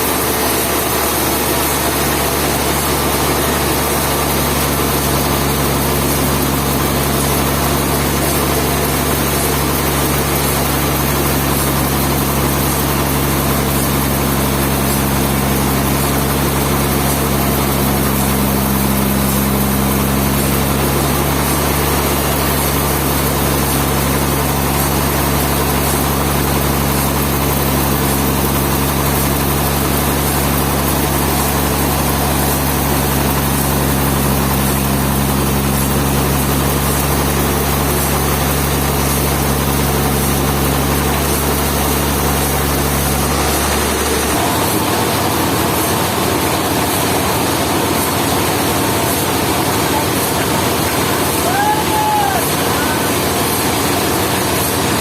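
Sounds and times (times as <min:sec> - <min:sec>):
sawmill machinery engine drone: 0:00.0 - 0:55.0.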